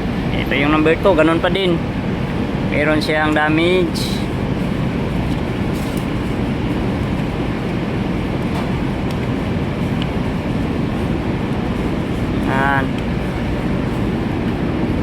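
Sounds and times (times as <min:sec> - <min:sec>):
steady low rumbling: 0:00.0 - 0:15.0.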